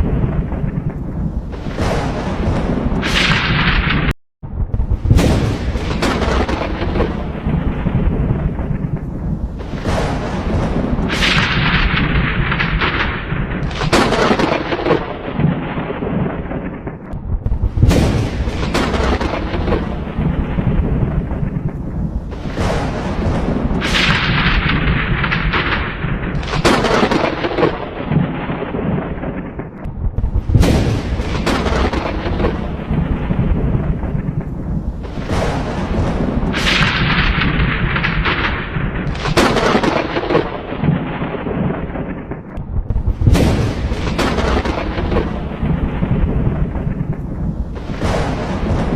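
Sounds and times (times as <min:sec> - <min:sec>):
thunder cracking and rumbling: 0:00.0 - 0:48.9.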